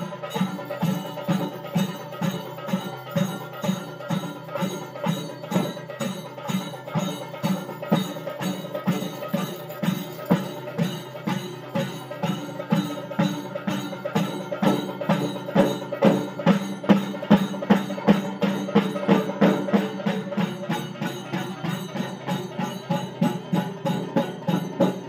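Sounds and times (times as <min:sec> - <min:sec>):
drum beaten in rhythm: 0:00.0 - 0:25.0
ringing metallic strokes: 0:00.0 - 0:25.0.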